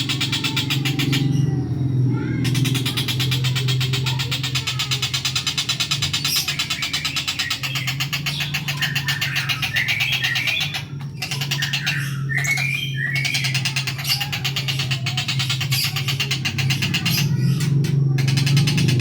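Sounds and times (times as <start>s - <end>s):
kingfisher chirping calls: 0.0s - 19.0s.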